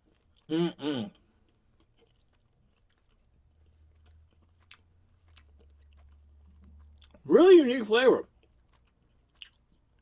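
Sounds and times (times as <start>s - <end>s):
chewing: 0.0s - 7.3s, 8.2s - 10.0s.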